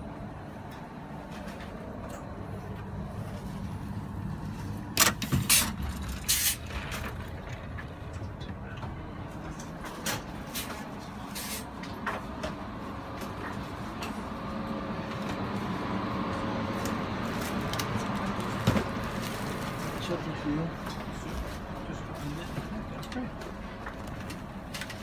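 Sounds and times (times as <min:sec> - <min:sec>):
train carriage hum: 0:00.0 - 0:25.0.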